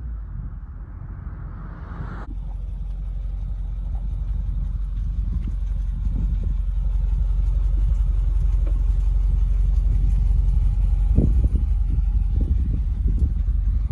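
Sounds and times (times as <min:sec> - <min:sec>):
car engine rumbling: 0:00.0 - 0:13.9.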